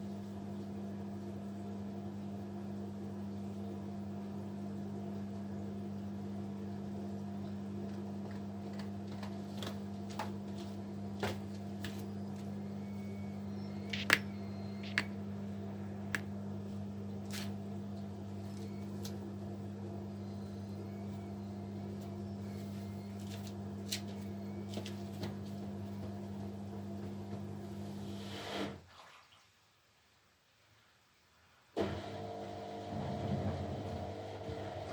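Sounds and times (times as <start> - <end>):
washing machine motor hum: 0.0 - 28.7, 31.8 - 34.9.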